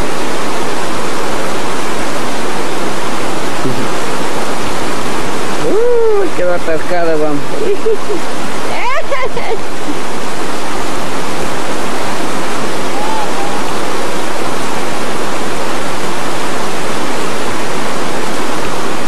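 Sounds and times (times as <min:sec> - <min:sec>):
river rapids rushing: 0:00.0 - 0:19.0.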